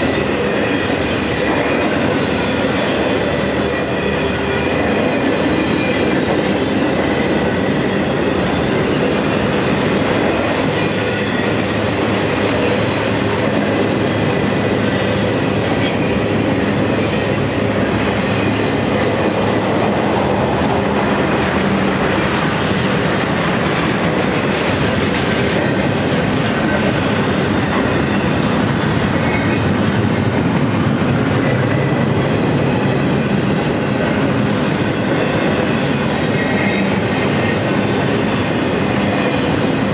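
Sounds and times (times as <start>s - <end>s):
freight train wheels rumbling: 0.0s - 39.9s
rail clickety-clack: 0.0s - 39.9s.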